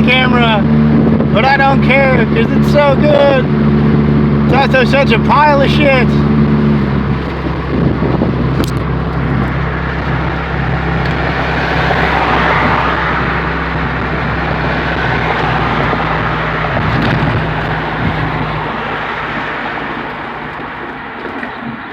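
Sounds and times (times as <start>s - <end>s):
car engine droning without muffler: 0.0s - 21.9s
road noise: 0.0s - 21.9s.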